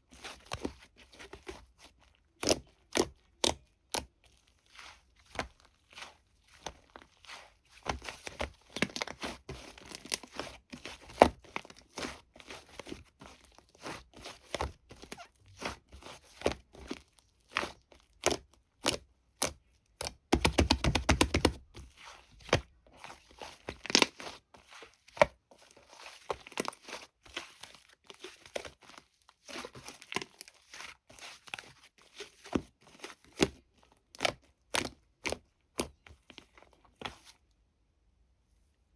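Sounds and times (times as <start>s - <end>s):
crinkling handling noises: 0.0s - 19.0s, 21.4s - 37.6s.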